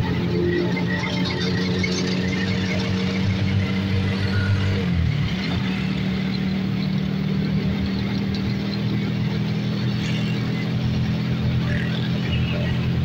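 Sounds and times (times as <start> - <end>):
road noise: 0.0 - 13.0
vehicle engine running: 0.0 - 13.0.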